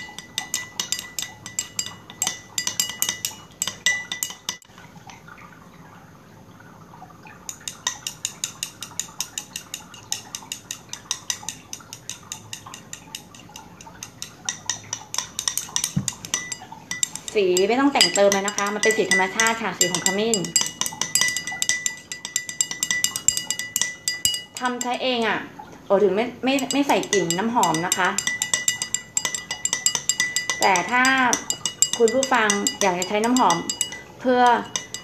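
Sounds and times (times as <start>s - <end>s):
utensil clinking against bowl: 0.0s - 4.7s, 7.4s - 25.3s, 26.5s - 35.0s.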